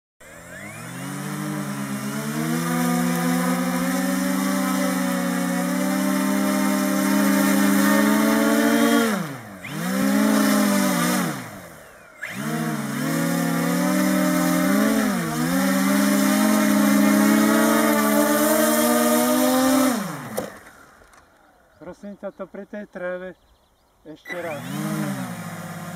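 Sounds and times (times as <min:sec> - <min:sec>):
model aircraft propellers humming: 0:00.2 - 0:21.8, 0:24.3 - 0:25.9.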